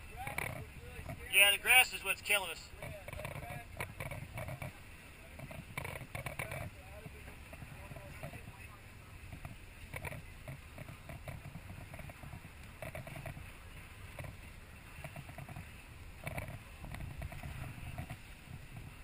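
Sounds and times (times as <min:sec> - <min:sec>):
boat engine low rumble: 0:00.0 - 0:19.0
water around boat hull: 0:00.0 - 0:19.0.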